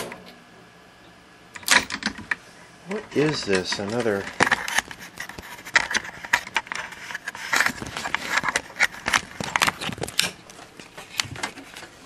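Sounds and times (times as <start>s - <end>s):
tv crackling and snapping: 1.5s - 12.0s.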